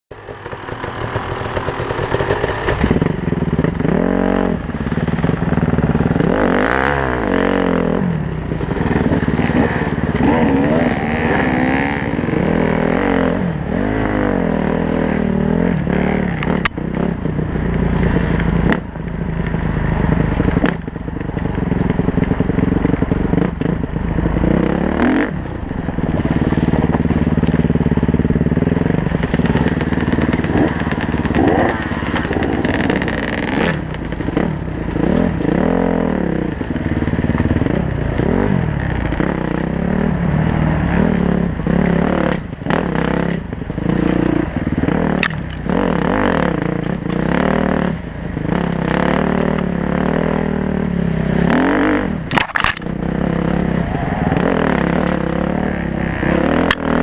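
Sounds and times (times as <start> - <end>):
dirt bike engine revving: 0.2 - 18.9, 22.0 - 57.0.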